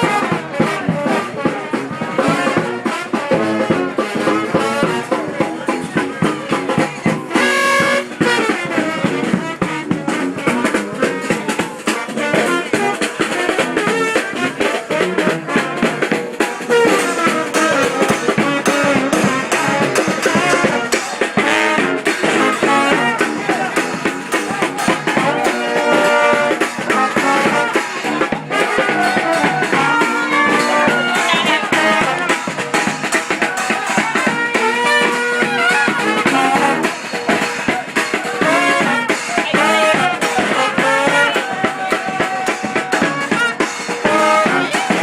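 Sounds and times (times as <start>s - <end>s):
brass horns playing: 0.0s - 45.0s
steady drum beat: 0.0s - 45.0s.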